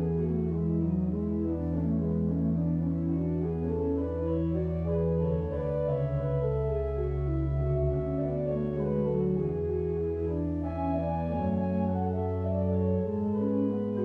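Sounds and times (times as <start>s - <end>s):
church organ chords: 0.0s - 14.0s.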